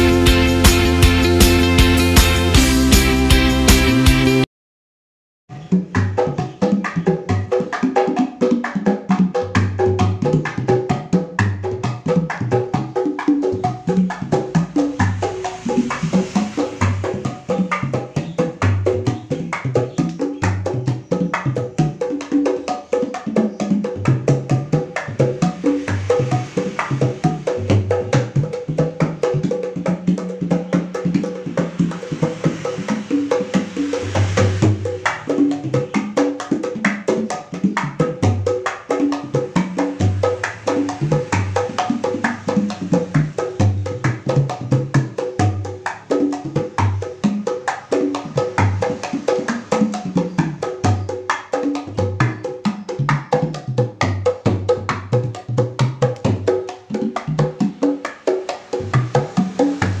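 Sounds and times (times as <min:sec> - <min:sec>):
hand drums playing fast rhythm: 0:00.0 - 0:04.4, 0:05.5 - 1:00.0.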